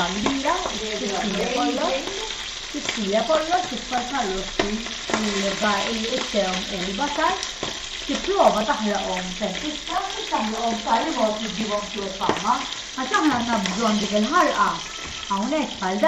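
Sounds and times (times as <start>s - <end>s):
woman talking: 0.0s - 7.4s, 8.1s - 16.0s
meat sizzling in pans: 0.0s - 16.0s.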